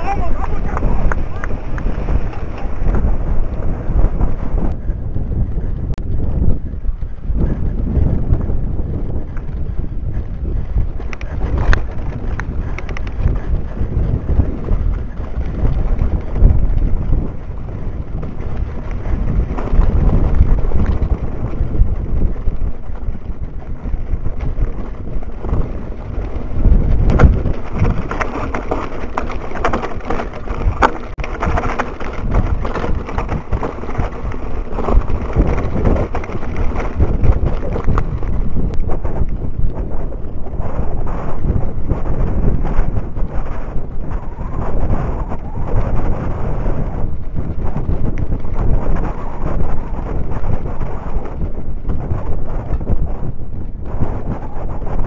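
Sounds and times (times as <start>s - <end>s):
bike rattling and knocking: 0.0s - 55.0s
wind buffeting microphone: 0.0s - 55.0s.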